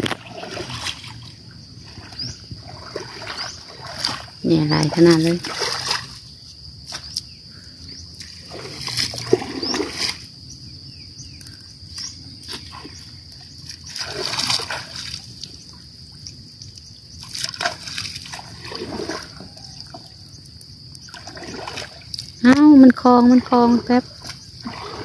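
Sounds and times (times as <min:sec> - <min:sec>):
water splashing and dripping: 0:00.0 - 0:07.2, 0:08.1 - 0:10.3, 0:11.4 - 0:25.0.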